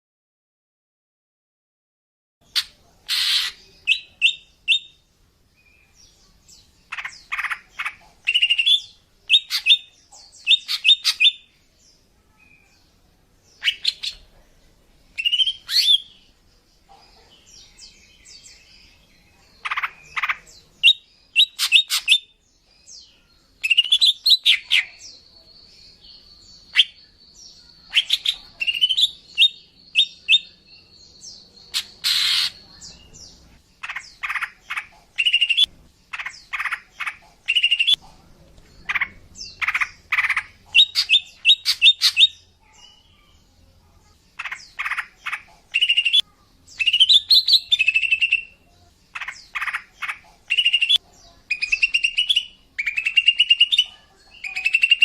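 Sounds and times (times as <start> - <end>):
bird chirps and trills: 2.4 - 14.3, 15.0 - 55.0.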